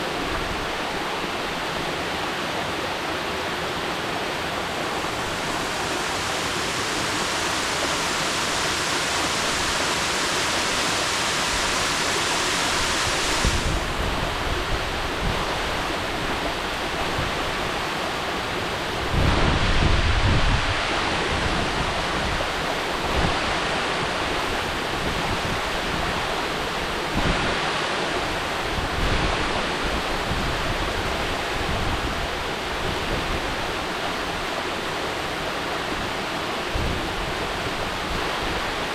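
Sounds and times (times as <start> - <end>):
waterfall rushing: 0.0 - 38.9
wind gusts on microphone: 4.4 - 38.9.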